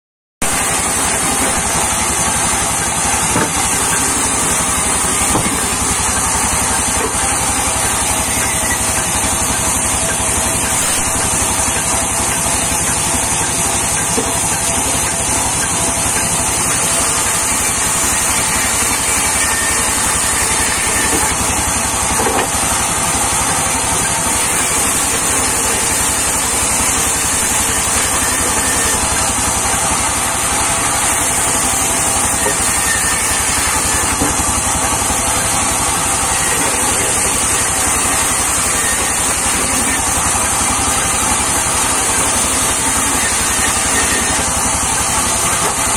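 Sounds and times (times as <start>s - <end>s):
band saw cutting log: 0.4s - 45.9s.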